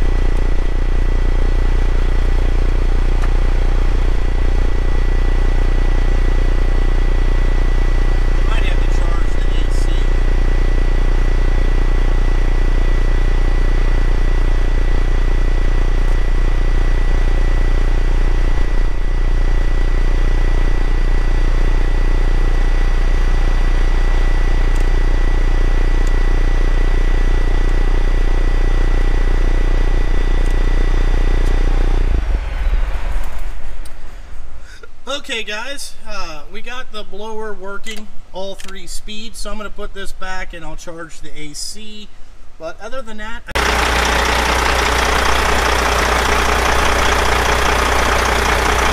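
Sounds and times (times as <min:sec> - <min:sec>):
blower fan running: 0:00.0 - 0:35.8, 0:43.6 - 0:48.9.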